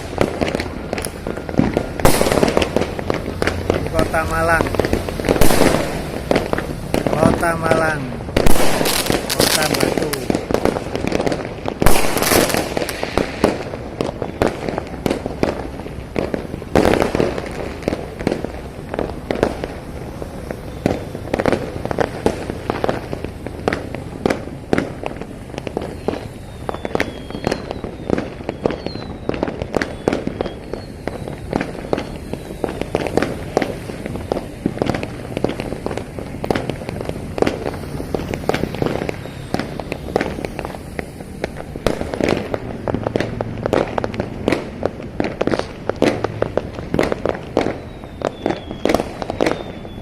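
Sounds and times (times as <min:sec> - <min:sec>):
faint high firework whistles: 0:00.0 - 0:50.0
fireworks bangs and crackles: 0:00.0 - 0:50.0.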